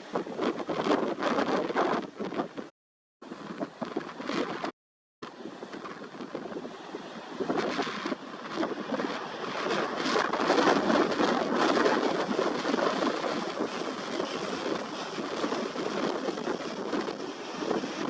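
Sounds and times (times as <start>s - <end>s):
gusty wind on microphone: 0.0s - 18.0s.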